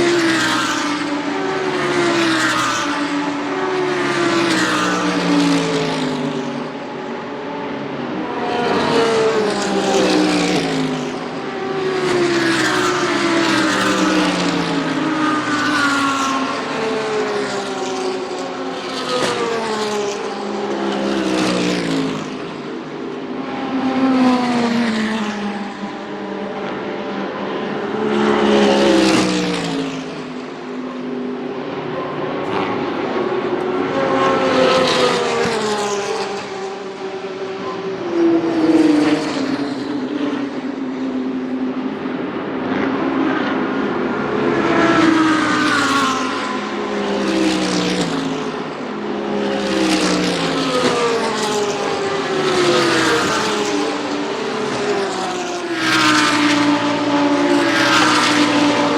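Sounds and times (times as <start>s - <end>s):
race cars passing: 0.0s - 58.9s.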